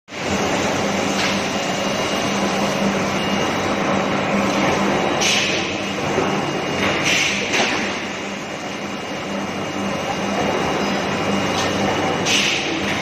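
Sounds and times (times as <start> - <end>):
furnace machinery noise: 0.1 - 13.0.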